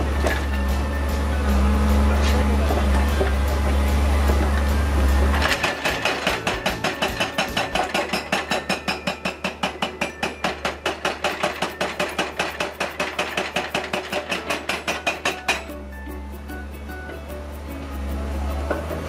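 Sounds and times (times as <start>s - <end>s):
hydraulic breaker hammering concrete: 0.0s - 15.8s, 18.3s - 19.0s.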